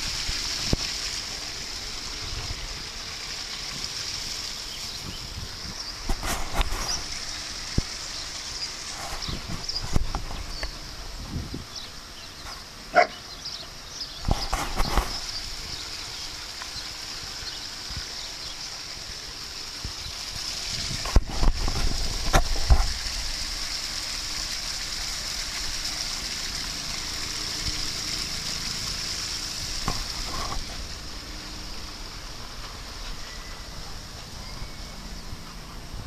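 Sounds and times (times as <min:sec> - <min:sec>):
running water hiss: 0:00.0 - 0:36.0.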